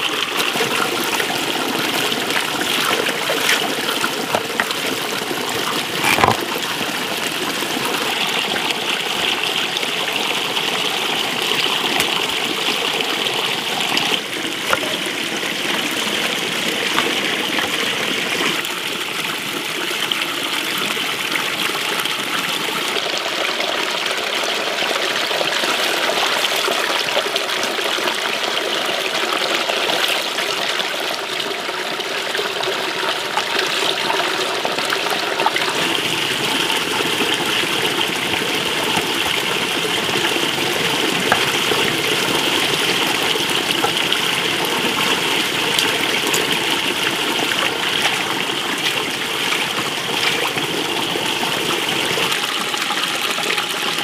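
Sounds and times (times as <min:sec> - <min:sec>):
water pouring into metal basin: 0:00.0 - 0:19.2, 0:22.1 - 0:54.0.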